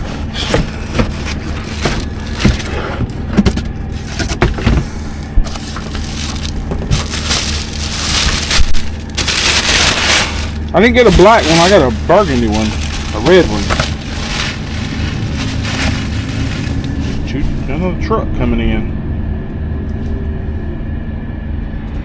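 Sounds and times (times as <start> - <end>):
loud packaging rustle: 0.0 - 17.7
packaging crunching and crackling: 0.0 - 17.7.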